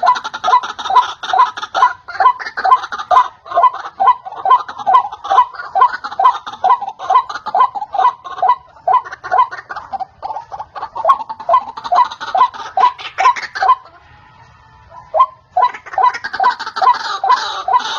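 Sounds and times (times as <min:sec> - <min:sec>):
waterhen repeated calls: 0:00.0 - 0:17.9.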